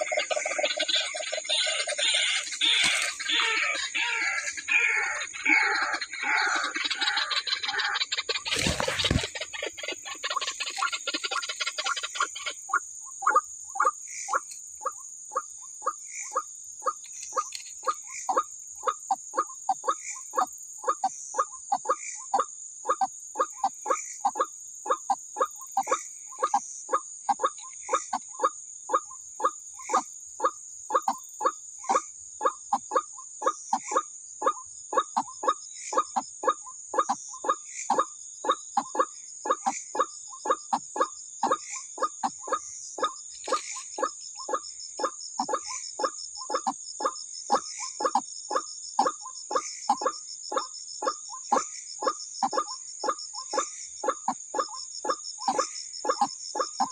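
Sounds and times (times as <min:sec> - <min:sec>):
high-pitched insect trill: 0:00.0 - 0:56.9.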